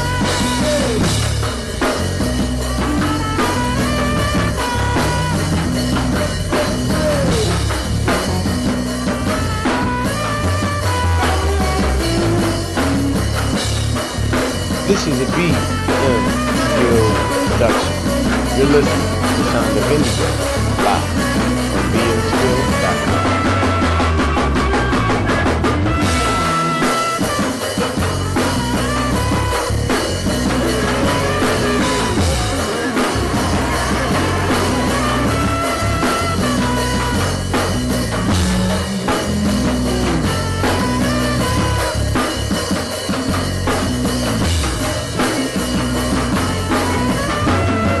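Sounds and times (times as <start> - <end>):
band playing a groove: 0.0 - 48.0.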